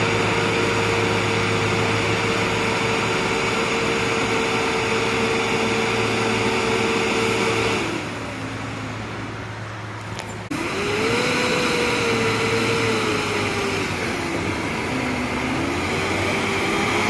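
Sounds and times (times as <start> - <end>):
truck engine whining: 0.0 - 17.0.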